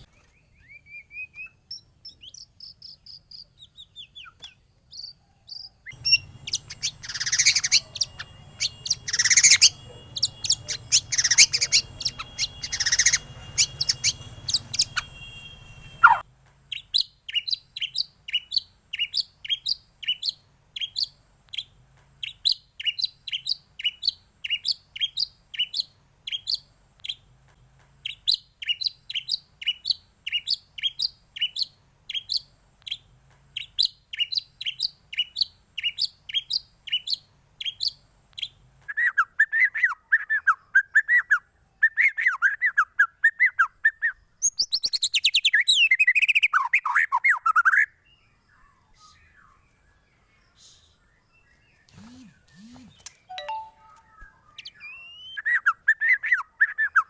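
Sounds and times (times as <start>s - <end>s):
songbird chirping and warbling: 0.0s - 27.3s, 27.9s - 57.0s.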